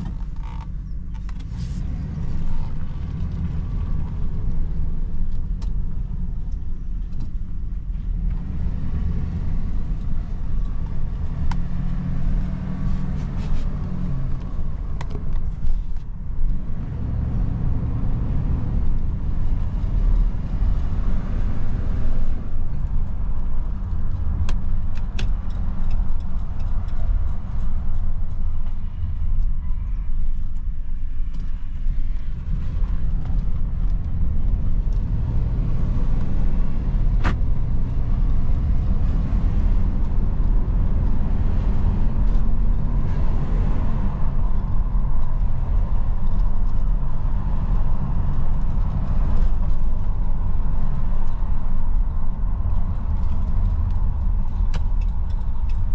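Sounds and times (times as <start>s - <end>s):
pickup truck engine rumbling: 0.0s - 55.9s.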